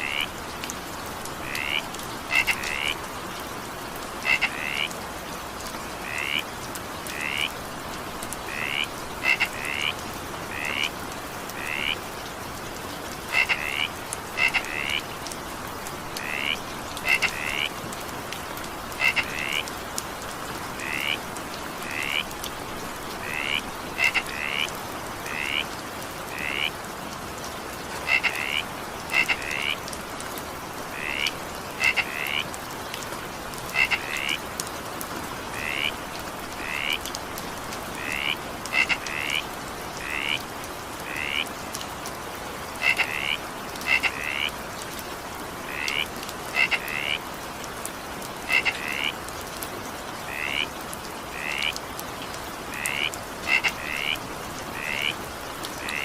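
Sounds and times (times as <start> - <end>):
frogs croaking: 0.0 - 0.4, 1.2 - 5.1, 5.9 - 12.2, 13.0 - 19.9, 20.5 - 26.9, 27.8 - 34.6, 35.3 - 47.4, 48.0 - 51.8, 52.4 - 56.0
steady rain: 0.0 - 56.0.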